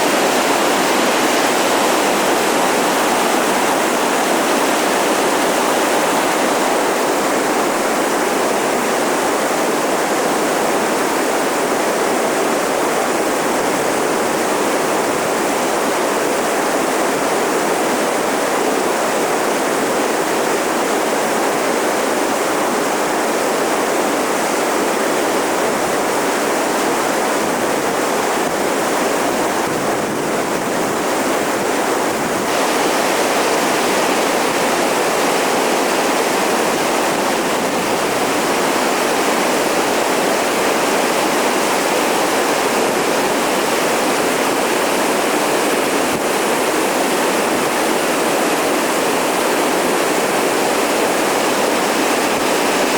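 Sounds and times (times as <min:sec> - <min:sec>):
whitewater rapids rushing: 0:00.0 - 0:52.9.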